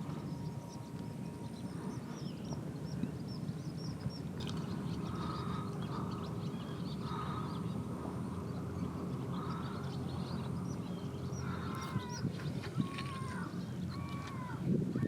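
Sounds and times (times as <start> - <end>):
small birds chirping: 0.0 - 14.6
steady low rumble: 0.0 - 15.0.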